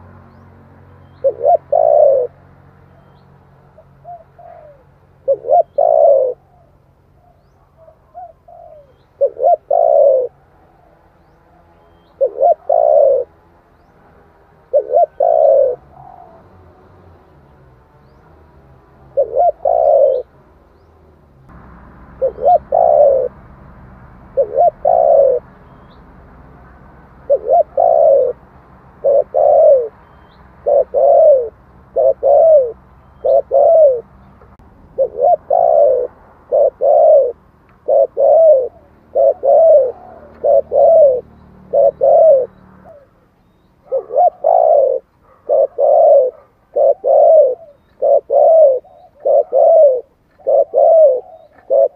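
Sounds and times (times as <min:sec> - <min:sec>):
dove cooing: 0:00.9 - 0:20.4, 0:22.1 - 0:23.6, 0:24.2 - 0:51.9.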